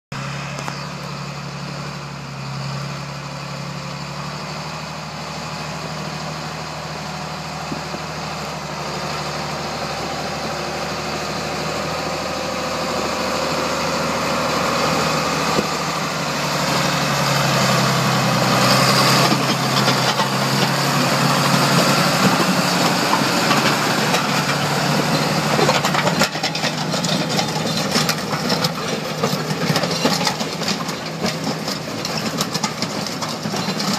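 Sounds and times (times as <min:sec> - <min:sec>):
gravel crunching under grader: 0:00.1 - 0:33.9
tractor diesel engine running: 0:00.1 - 0:33.9.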